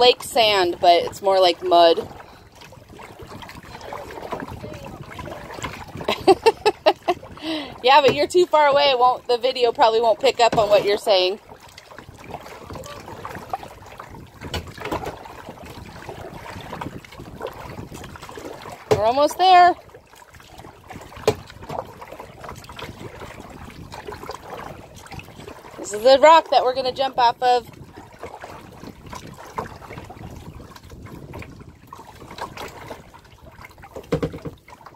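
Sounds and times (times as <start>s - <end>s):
paddle splashes: 0.0s - 34.9s
water lapping against kayak hull: 0.0s - 34.9s.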